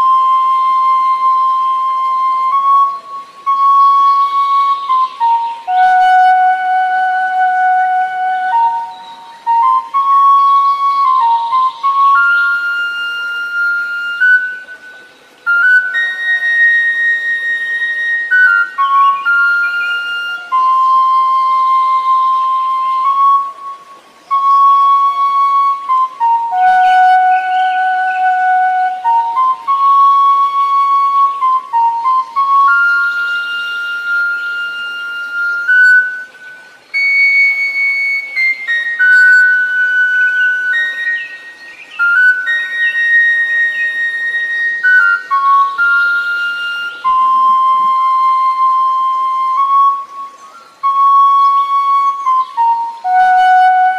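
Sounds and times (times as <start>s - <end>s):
bamboo flute melody: 0.0s - 53.9s.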